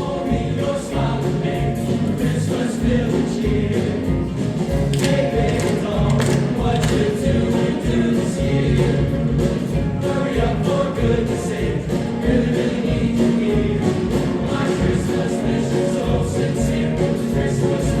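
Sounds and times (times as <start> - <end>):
choir singing: 0.0 - 18.0
musical accompaniment: 0.0 - 18.0.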